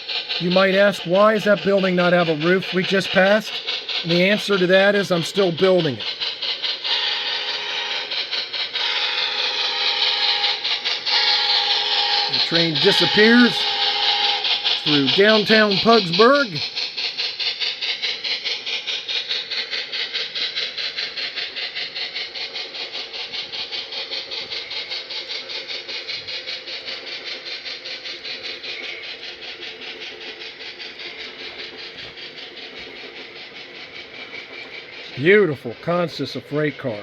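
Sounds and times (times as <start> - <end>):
steam locomotive chuffing: 0.0 - 37.0.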